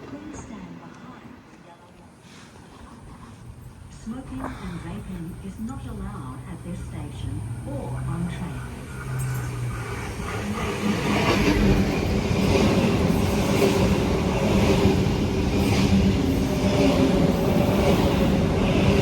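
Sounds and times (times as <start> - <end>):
electric train rumble and hum: 3.3 - 19.0.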